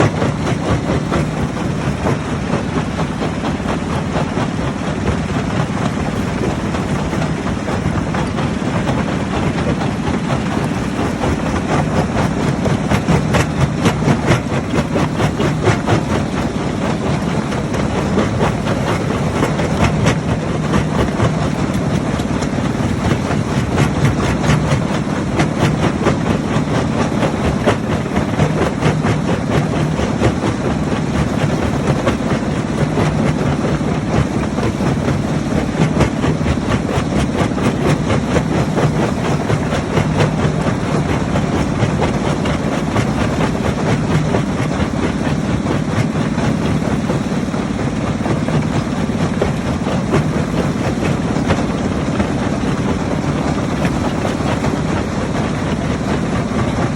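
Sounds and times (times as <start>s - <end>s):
heavy engine hum: 0.0s - 56.9s.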